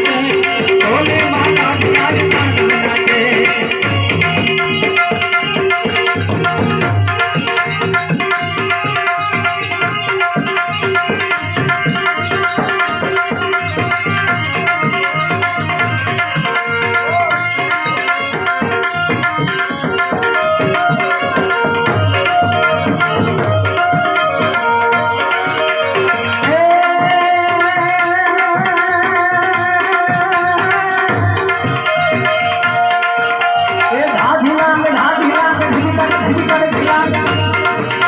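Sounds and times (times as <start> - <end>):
fast busy drumming: 0.0 - 38.0.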